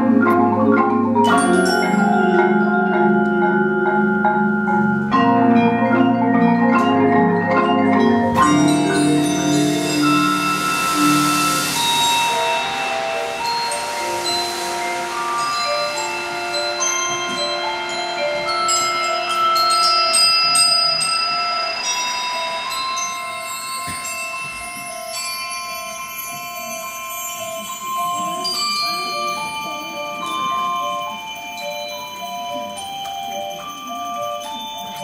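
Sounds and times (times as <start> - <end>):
mallet percussion ringing notes: 0.0 - 35.0
high bell tones: 1.1 - 35.0.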